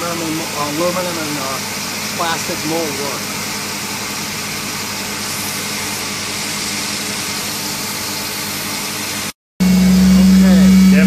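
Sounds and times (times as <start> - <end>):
machine spindle hiss and hum: 0.0 - 11.0.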